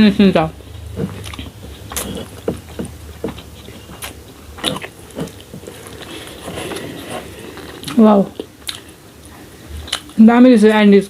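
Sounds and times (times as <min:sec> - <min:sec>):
chewing with wet mouth clicks: 0:00.8 - 0:10.2.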